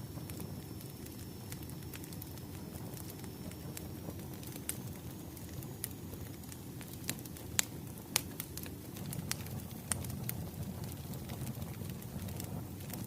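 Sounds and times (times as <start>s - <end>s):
wood fire crackling: 0.0s - 13.0s
fire sharp pops: 0.1s - 13.0s.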